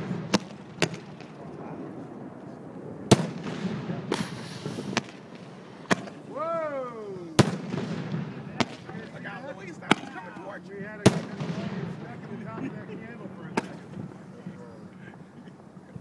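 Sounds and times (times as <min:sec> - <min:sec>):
fireworks bangs: 0:00.0 - 0:15.3.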